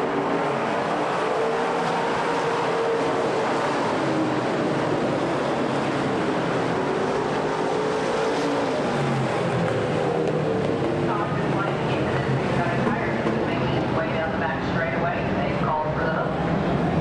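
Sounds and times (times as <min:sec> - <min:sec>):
stock car engines racing: 0:00.0 - 0:17.0.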